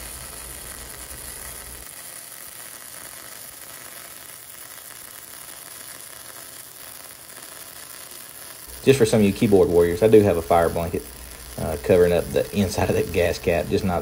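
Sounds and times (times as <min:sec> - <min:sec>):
welding arc sizzling hiss: 0:00.0 - 0:14.0.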